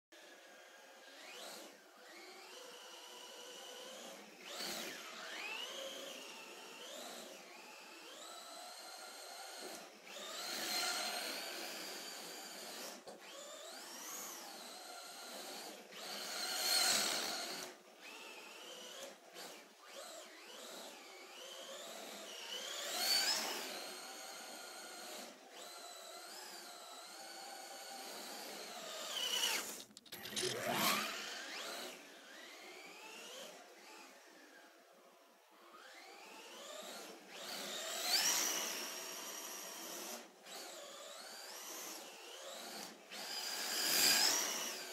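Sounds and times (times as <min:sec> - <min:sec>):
rc car motor whining: 0:00.2 - 0:34.7, 0:35.7 - 0:44.9.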